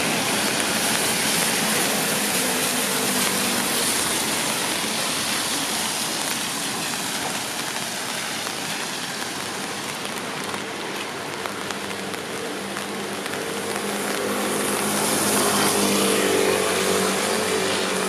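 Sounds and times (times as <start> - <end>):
rain on pavement: 0.0 - 18.0.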